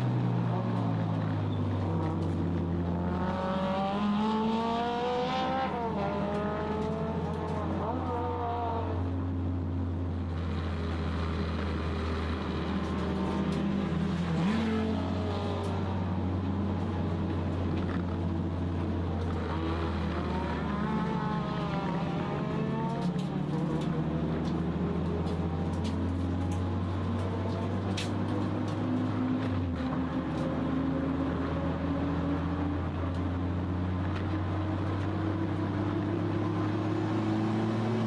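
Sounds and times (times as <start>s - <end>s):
race car engine droning: 0.0s - 38.0s.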